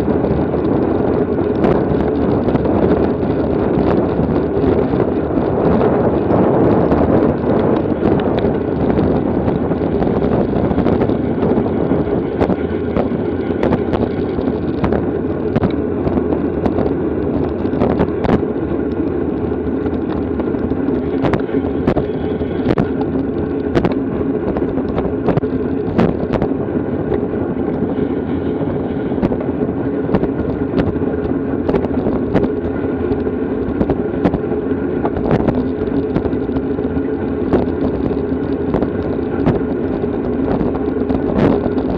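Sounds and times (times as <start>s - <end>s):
bike tyre and drivetrain noise: 0.0s - 41.9s
wind on microphone: 0.0s - 41.9s.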